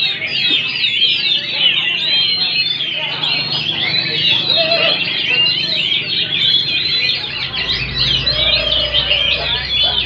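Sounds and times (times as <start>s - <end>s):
songbirds chirping and trilling: 0.0s - 10.0s.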